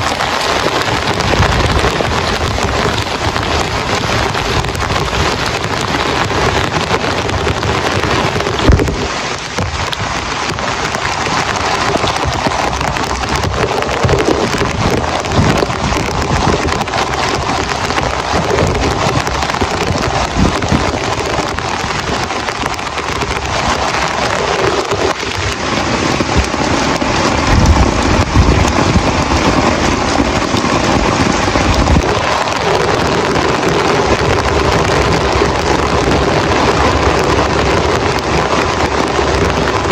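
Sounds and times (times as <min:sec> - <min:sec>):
deep low rumble: 0:00.0 - 0:39.9
heavy rain pounding: 0:00.0 - 0:39.9.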